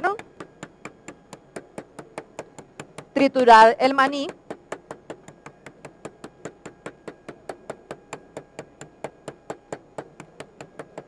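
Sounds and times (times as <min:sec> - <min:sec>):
spoon pounding peanuts on table: 0:00.0 - 0:11.0.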